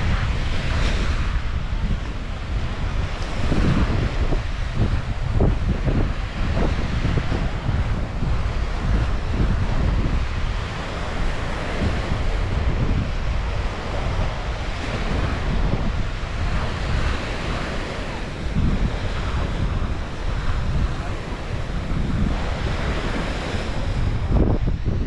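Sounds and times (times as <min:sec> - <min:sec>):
small waves breaking on beach: 0:00.0 - 0:25.0
wind buffeting microphone: 0:00.0 - 0:25.0.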